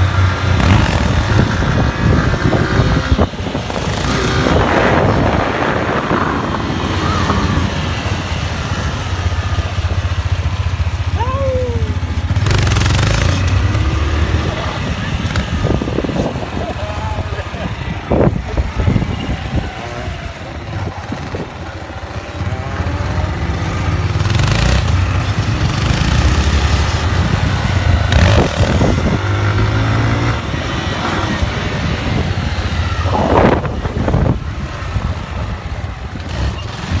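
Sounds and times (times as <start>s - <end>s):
loud rushes of noise: 0.0s - 37.0s.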